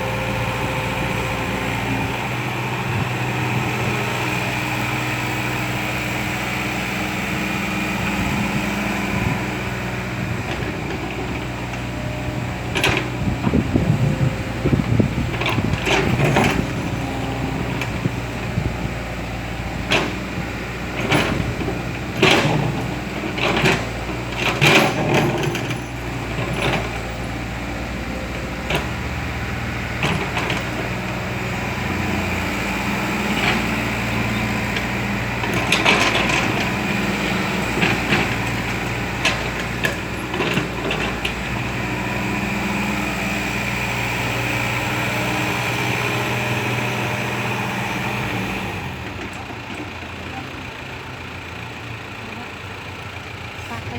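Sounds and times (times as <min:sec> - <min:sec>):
excavator engine running: 0:00.0 - 0:53.9.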